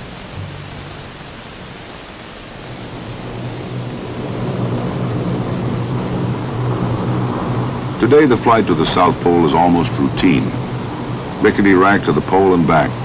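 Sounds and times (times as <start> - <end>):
aircraft engines droning: 0.0 - 13.0
hiss: 0.0 - 13.0.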